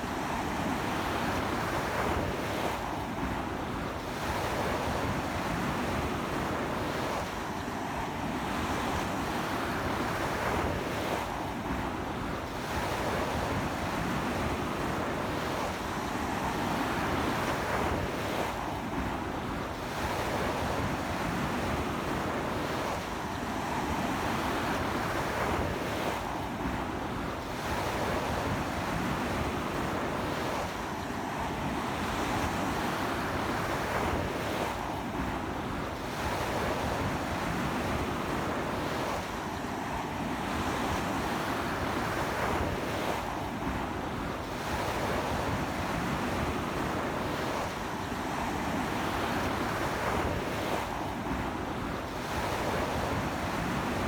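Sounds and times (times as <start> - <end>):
sea wind blowing: 8.0 - 54.0.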